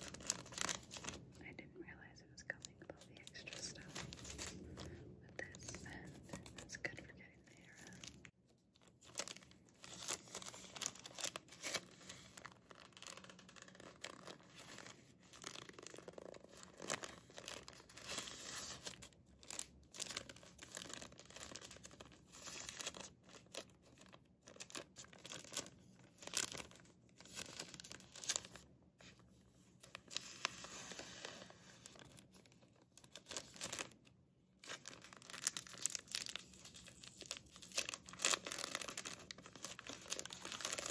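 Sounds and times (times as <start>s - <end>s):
plastic sleeve crinkling: 0.0s - 1.4s, 2.6s - 40.9s.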